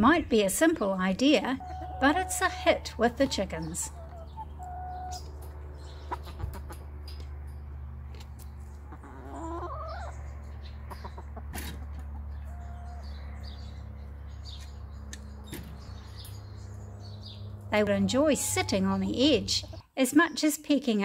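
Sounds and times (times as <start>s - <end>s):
hens clucking: 0.9s - 19.9s.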